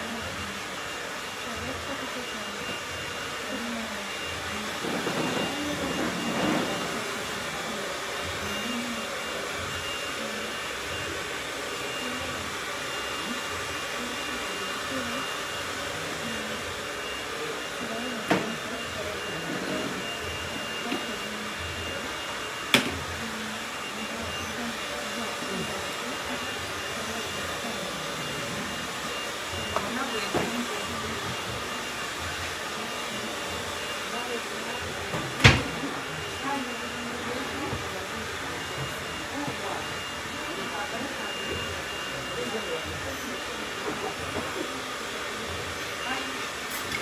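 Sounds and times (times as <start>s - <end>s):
blower motor whooshing: 0.3s - 44.8s.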